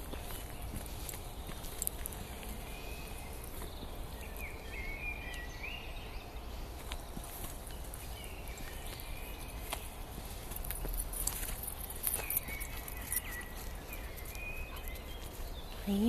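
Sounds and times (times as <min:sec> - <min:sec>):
footsteps crunching on gravel: 0:00.0 - 0:05.6, 0:06.5 - 0:16.0
bird chirping: 0:00.0 - 0:16.0.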